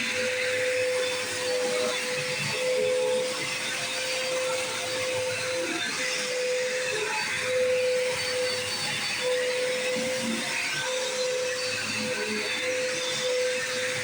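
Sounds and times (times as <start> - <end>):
upright vacuum cleaner running: 0.0 - 14.0.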